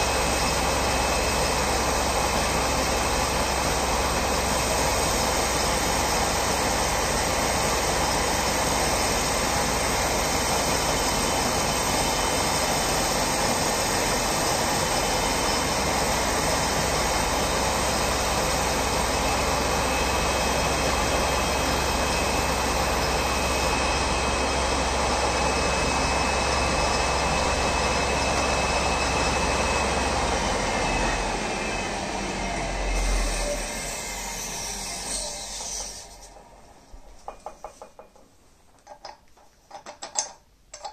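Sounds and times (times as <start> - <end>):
metal lathe cutting: 0.0 - 36.4.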